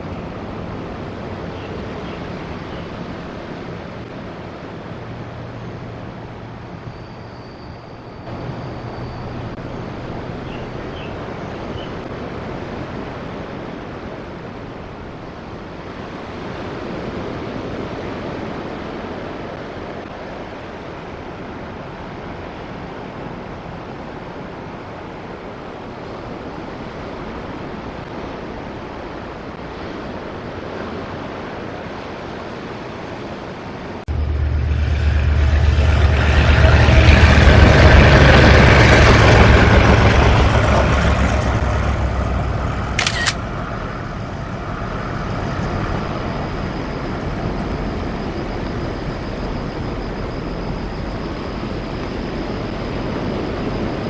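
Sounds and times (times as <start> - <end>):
sea surf: 0.0 - 54.0.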